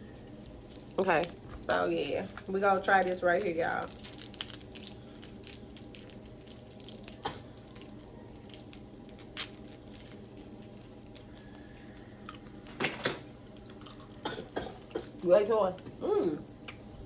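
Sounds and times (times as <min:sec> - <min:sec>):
hard candies being crunched: 0:00.0 - 0:12.5, 0:13.6 - 0:15.3
steady low hum: 0:00.0 - 0:17.0.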